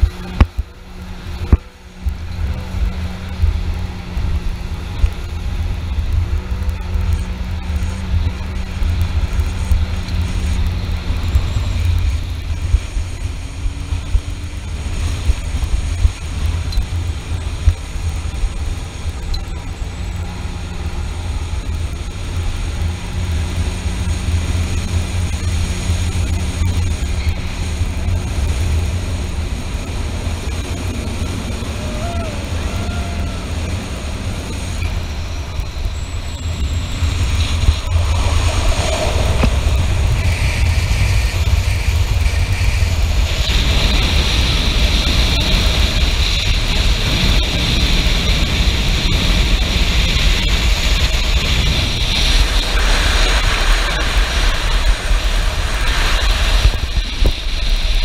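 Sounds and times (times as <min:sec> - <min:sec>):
jet ski engine: 0:00.0 - 0:58.0
rushing water: 0:00.0 - 0:58.0
wind buffeting the microphone: 0:00.0 - 0:58.0.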